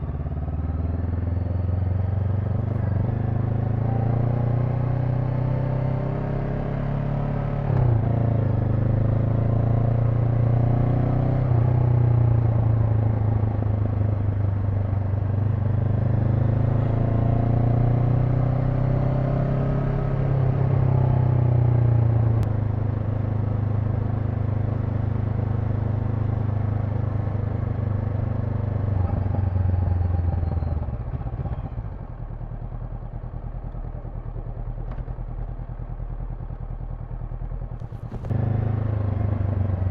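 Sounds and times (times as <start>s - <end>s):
motorcycle engine revving: 0.0s - 13.8s, 15.4s - 39.9s.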